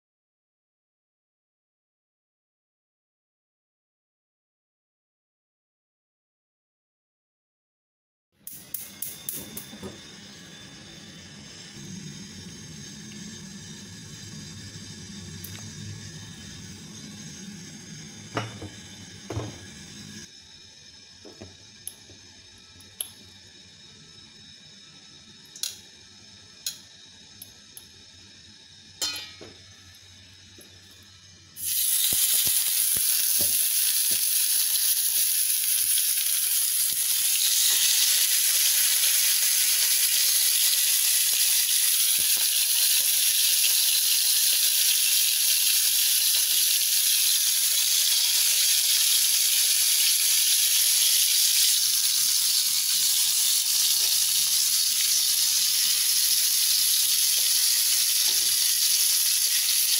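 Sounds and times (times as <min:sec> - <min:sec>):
meat sizzling in oil: 0:08.5 - 0:59.9.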